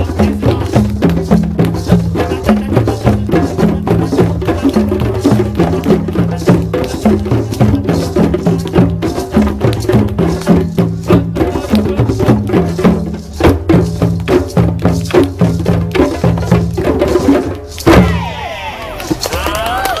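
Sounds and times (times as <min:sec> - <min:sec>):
hand drums playing rhythm: 0:00.0 - 0:19.6.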